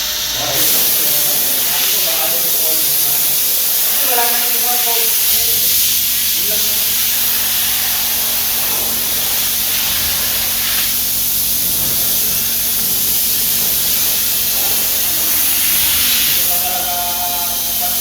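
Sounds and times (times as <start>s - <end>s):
espresso machine hissing: 0.0s - 18.0s.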